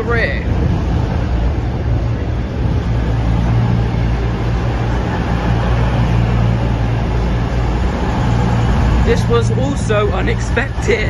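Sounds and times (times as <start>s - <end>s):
diesel train engines humming: 0.0s - 11.0s
train wheels rumbling on rails: 0.0s - 11.0s.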